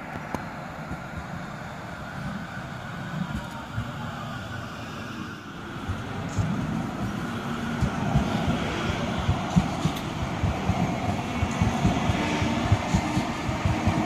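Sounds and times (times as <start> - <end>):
light-rail train running past: 0.0 - 14.0.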